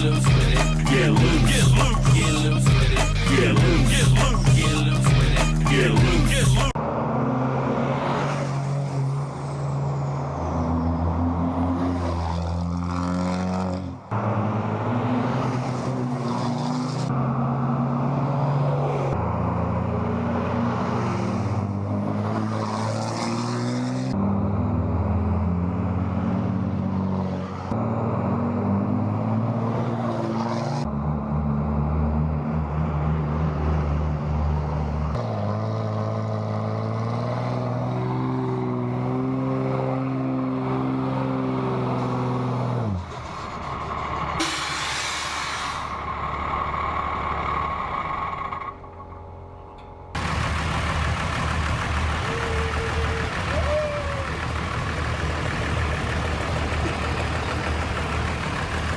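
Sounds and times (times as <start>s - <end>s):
diesel truck engines revving: 0.0s - 58.9s.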